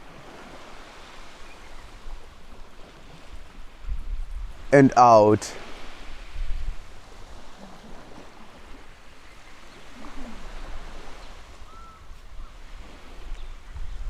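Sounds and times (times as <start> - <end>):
wind rumble on microphone: 0.0 - 4.8, 5.6 - 14.0
waves washing: 0.0 - 14.0.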